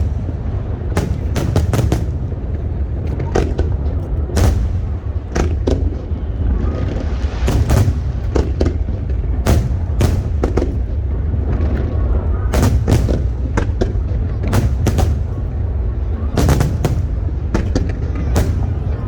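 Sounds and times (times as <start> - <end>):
fireworks bursting with sharp bangs: 0.0 - 19.0
low rumble: 0.0 - 19.0.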